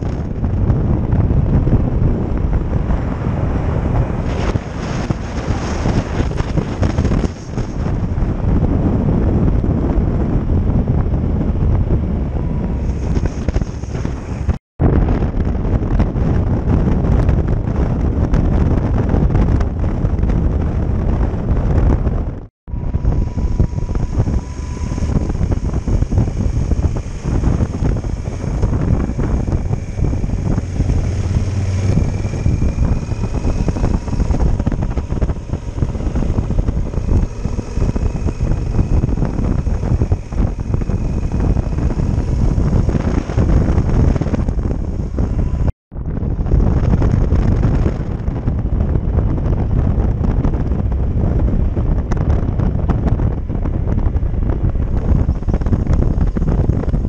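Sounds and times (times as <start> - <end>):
motorcycle engine: 0.0 - 14.6, 15.4 - 57.0
wind buffeting microphone: 0.0 - 57.0.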